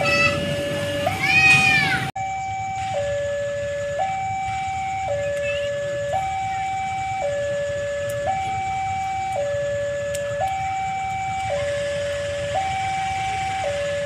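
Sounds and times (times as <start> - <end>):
two-tone warning siren: 0.0 - 14.0.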